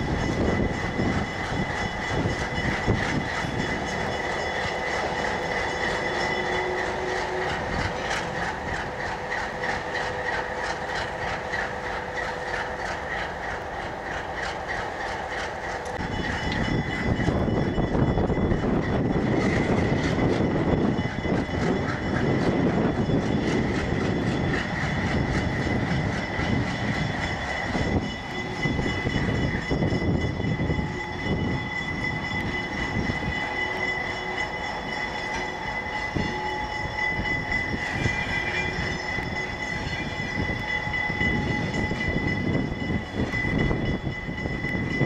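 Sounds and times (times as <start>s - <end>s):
train wheels clicking over rail joints: 0.0s - 45.0s.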